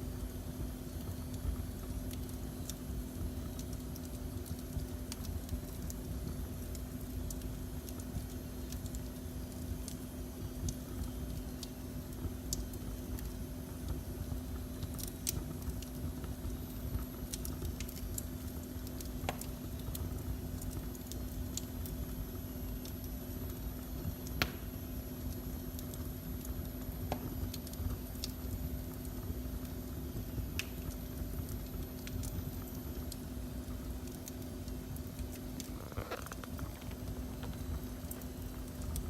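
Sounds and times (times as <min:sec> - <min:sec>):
fire crackles and pops: 0:00.0 - 0:39.0
steady low hum: 0:00.0 - 0:39.0
wood fire rumbling: 0:00.0 - 0:39.0.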